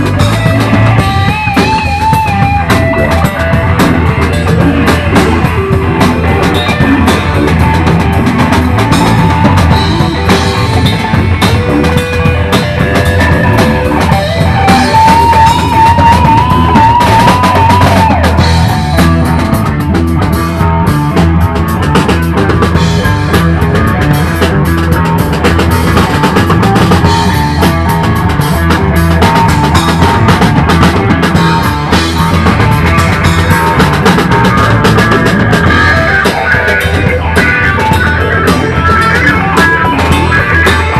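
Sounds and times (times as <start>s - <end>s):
electric guitar lead line: 0.0s - 40.9s
funk rock band playing: 0.0s - 40.9s.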